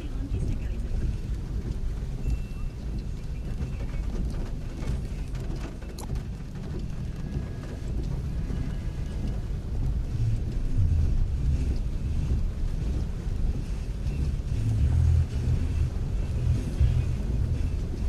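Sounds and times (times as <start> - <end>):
heavy rain: 0.0 - 18.0
vehicles moving through water: 0.0 - 18.0.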